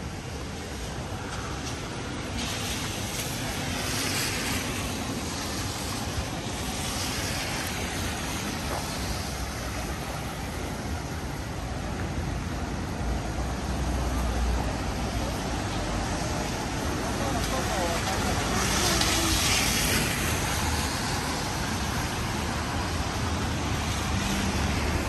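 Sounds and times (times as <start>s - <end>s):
rain hiss: 0.0s - 25.0s
traffic on wet road: 0.0s - 25.0s.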